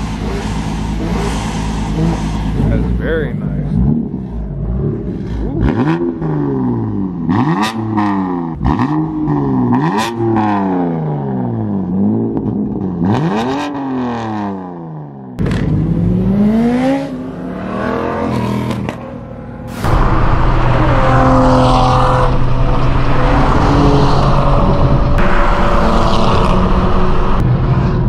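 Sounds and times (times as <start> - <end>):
car engine revving: 0.0 - 14.8, 15.4 - 28.0.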